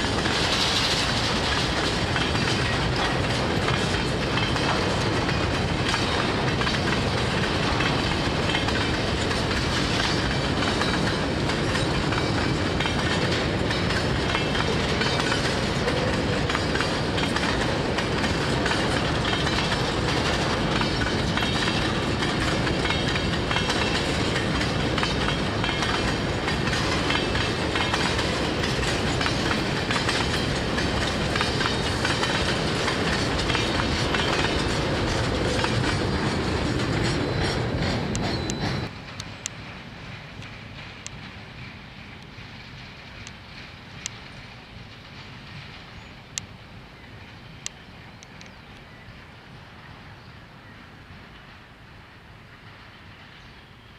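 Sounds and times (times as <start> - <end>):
clickety-clack over rail joints: 0.0 - 53.9
train wheels rumbling on rails: 0.0 - 53.9.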